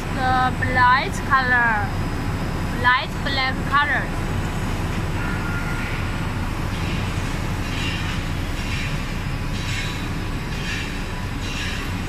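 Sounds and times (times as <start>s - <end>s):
low machine drone: 0.0s - 12.0s.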